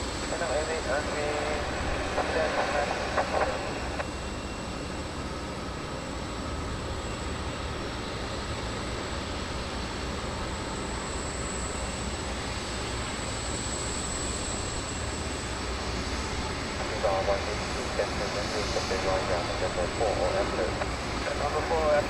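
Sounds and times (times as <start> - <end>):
jet airliner engines running: 0.0 - 22.0.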